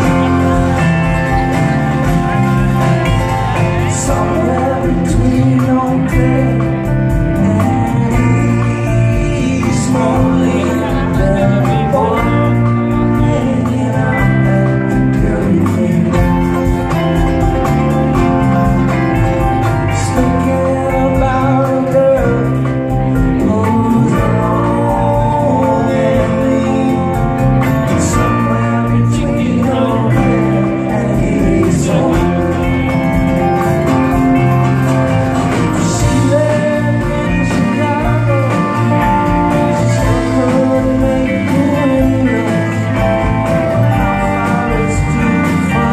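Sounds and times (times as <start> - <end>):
live band playing: 0.0 - 45.9
man singing: 0.0 - 45.9.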